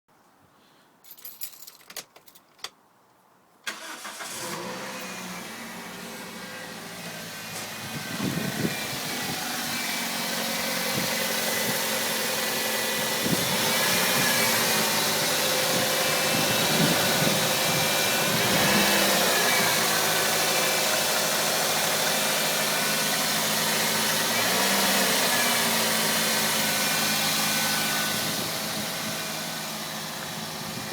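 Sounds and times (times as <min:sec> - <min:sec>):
car engine starting and idling: 0:03.6 - 0:30.9.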